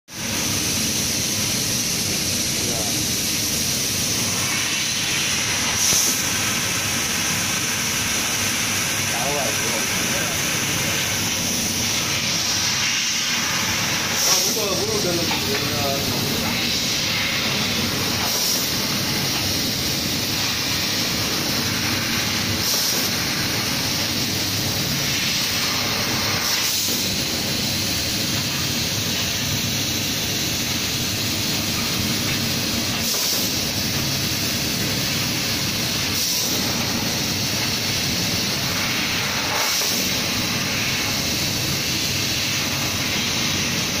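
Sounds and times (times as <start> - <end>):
laser cutter gas jet hissing: 0.1 - 44.0.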